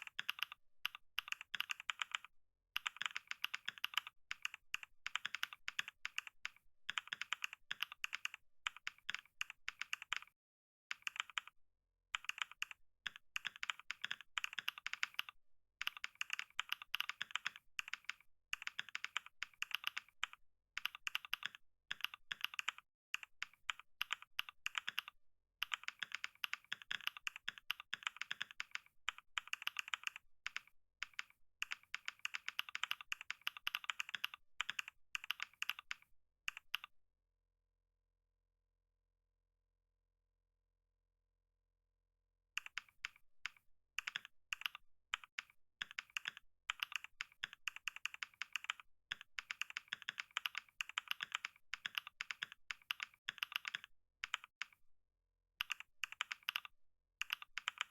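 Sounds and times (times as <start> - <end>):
fast typing on keyboard: 0.0 - 10.3, 10.9 - 11.5, 12.2 - 36.9, 42.6 - 54.8, 55.6 - 57.9.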